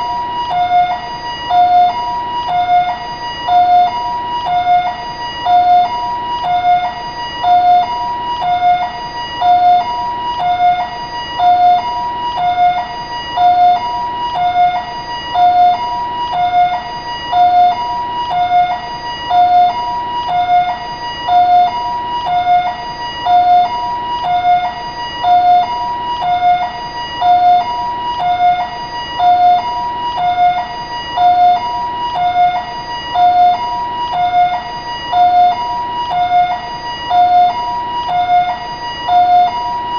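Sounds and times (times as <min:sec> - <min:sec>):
two-tone ambulance siren: 0:00.0 - 0:39.9.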